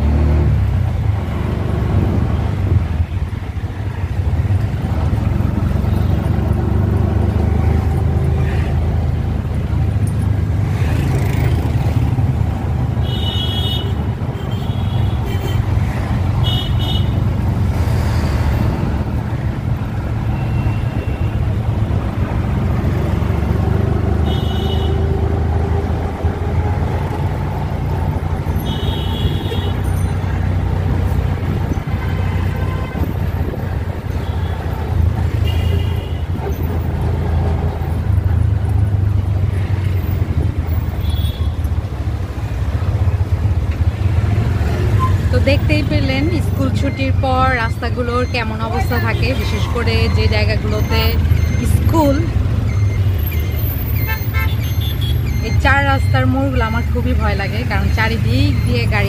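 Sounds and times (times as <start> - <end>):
traffic engine drone: 0.0 - 59.0.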